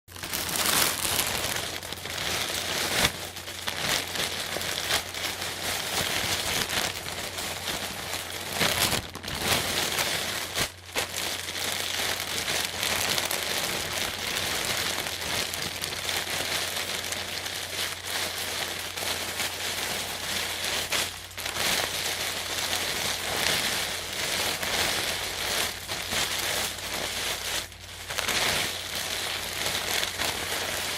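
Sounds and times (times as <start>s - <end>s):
plastic bag crinkling: 0.1s - 30.9s.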